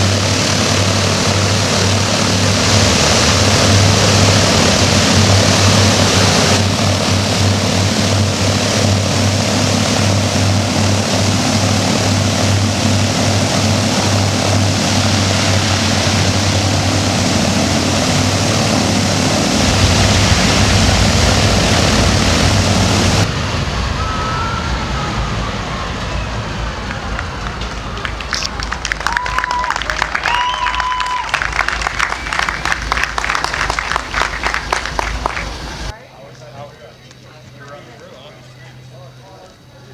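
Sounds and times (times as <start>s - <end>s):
radial piston engines droning: 0.0s - 30.2s, 31.3s - 39.9s
faint falling whine: 0.0s - 39.9s
propeller noise: 0.0s - 39.9s.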